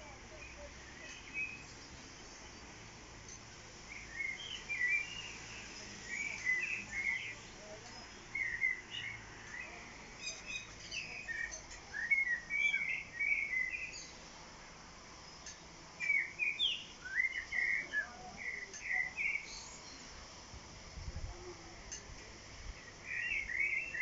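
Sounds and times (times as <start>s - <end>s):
faint outdoor hiss: 0.0s - 24.0s
songbirds chirping: 0.0s - 24.0s.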